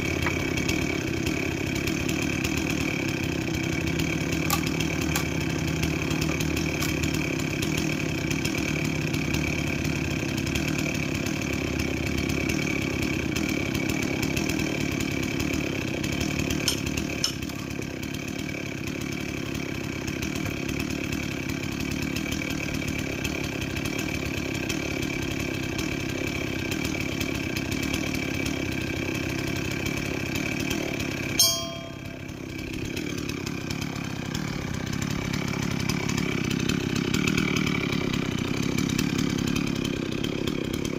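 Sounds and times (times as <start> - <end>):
chainsaw running: 0.0 - 40.9.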